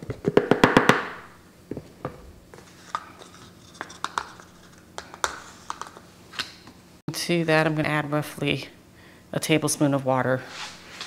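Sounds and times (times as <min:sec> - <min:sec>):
faint steady hum: 0:01.2 - 0:11.0.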